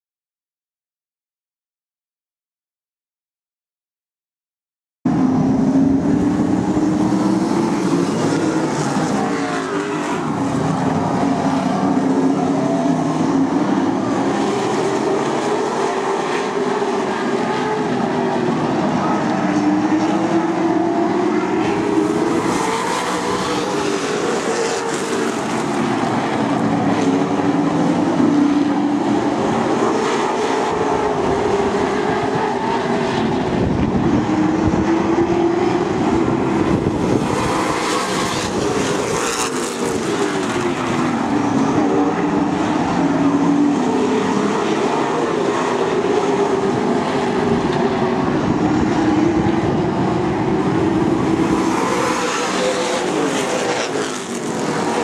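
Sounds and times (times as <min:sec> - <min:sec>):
stock car engines racing: 0:05.1 - 0:55.0.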